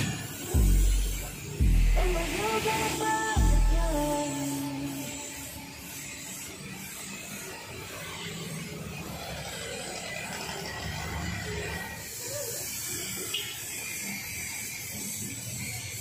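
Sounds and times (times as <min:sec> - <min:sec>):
paint spray gun hissing: 0:00.0 - 0:09.4, 0:11.9 - 0:16.0.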